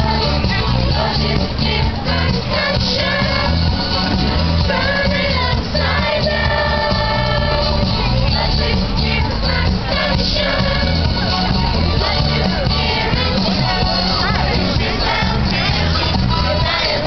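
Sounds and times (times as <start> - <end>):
bass-heavy accompaniment: 0.0 - 17.0
children's chorus singing: 0.0 - 17.0.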